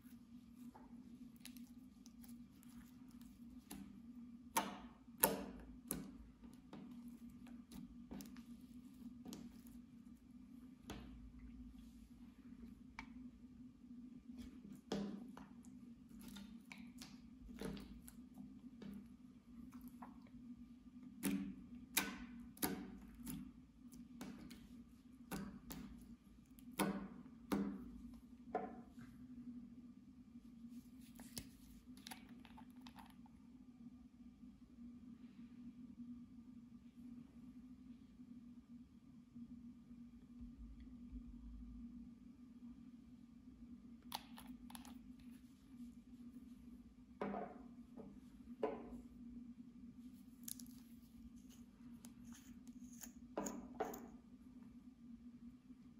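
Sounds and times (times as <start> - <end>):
faint low hum: 0.0 - 55.9.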